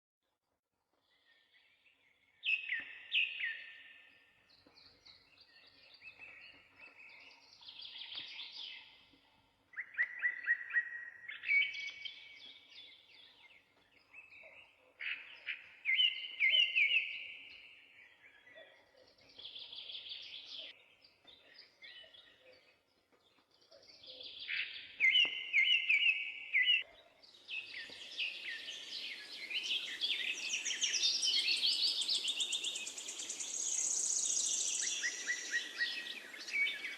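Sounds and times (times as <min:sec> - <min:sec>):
songbirds singing: 0:01.0 - 0:36.9.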